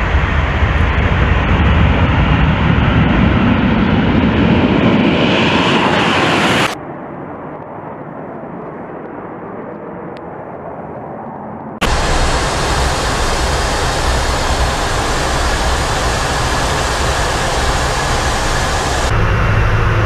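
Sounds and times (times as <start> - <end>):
distant jet noise: 0.0 - 20.0
jet engines roaring: 0.0 - 20.0.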